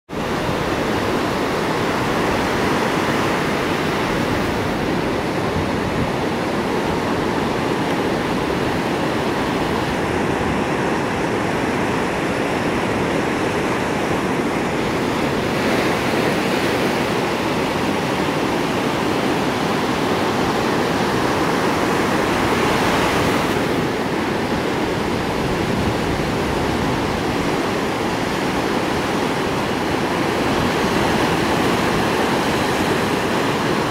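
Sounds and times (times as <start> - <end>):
waves breaking on a beach: 0.1 - 33.9.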